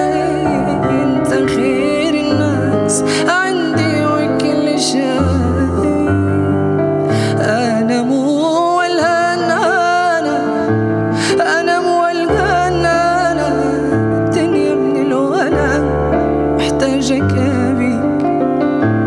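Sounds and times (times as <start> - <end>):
man singing into a microphone: 0.0 - 18.4
grand piano accompaniment: 0.0 - 19.0.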